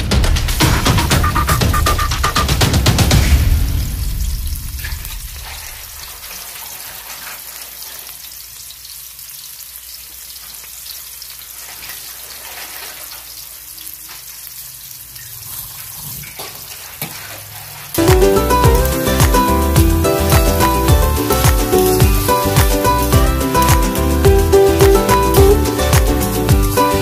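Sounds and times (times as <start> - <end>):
food sizzling in a pan: 3.7 - 27.0.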